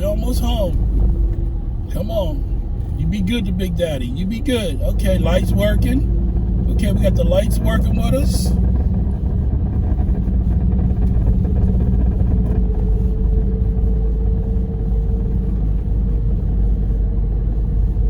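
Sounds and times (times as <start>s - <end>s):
car engine and exhaust rumbling: 0.0s - 18.0s
droning exhaust hum: 0.0s - 18.0s.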